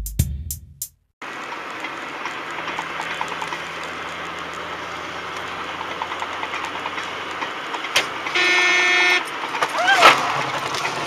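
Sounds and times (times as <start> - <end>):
road noise hiss: 1.2 - 11.0
vehicle engine hum: 1.2 - 11.0.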